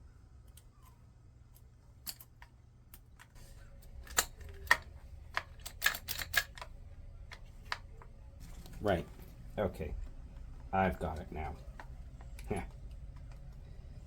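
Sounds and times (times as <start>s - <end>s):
small parts clicking and tapping: 0.4s - 8.8s, 9.8s - 14.0s.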